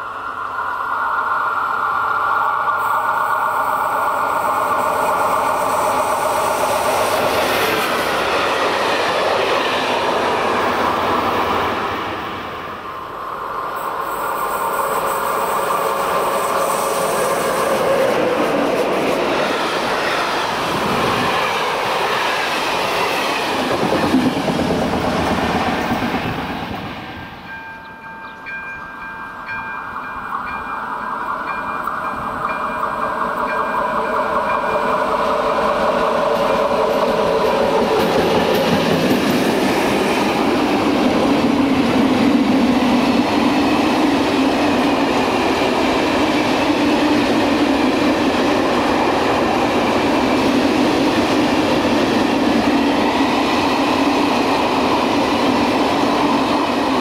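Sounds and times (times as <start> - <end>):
train wheels rumbling over rails: 0.0 - 57.0.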